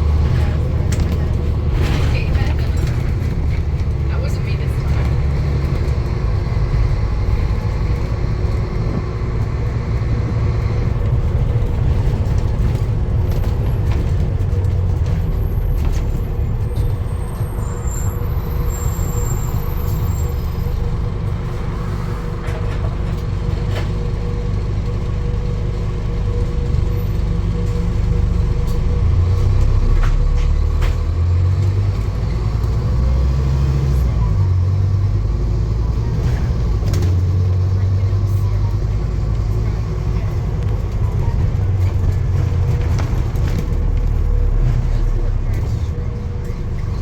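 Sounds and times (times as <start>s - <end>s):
vehicle engine low rumble: 0.0s - 47.0s.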